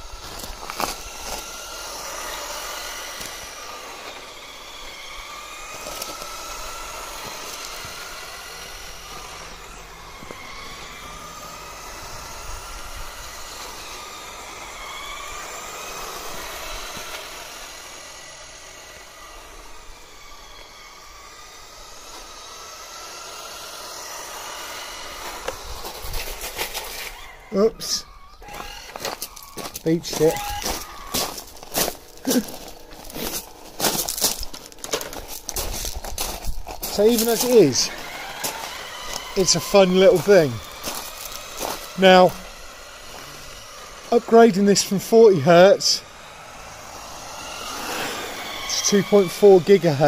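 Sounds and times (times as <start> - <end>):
electric motor whining: 0.0 - 50.0.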